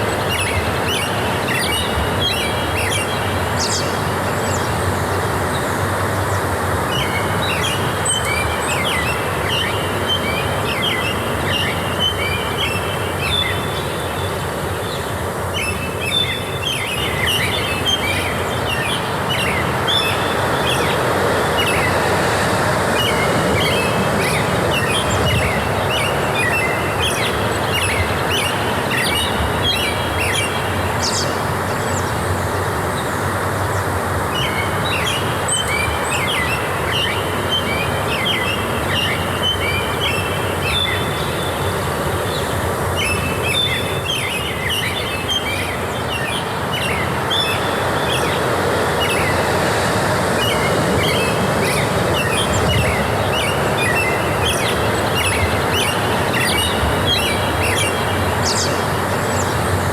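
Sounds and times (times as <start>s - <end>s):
forest ambience rushing noise: 0.0s - 59.9s
songbirds chirping and trilling: 0.0s - 59.9s.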